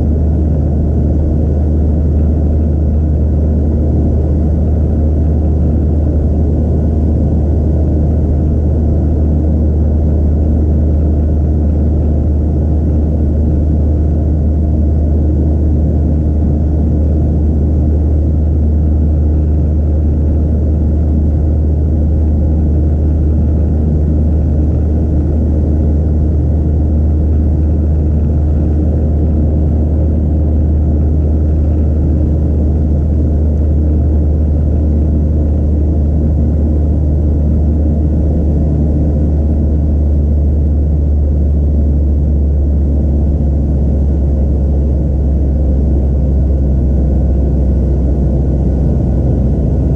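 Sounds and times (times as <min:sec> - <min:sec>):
jet engine deep rumble: 0:00.0 - 0:49.9.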